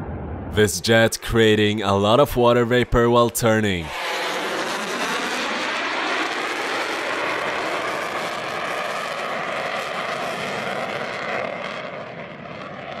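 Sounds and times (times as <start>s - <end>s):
jet fighter noise: 0.0s - 13.0s.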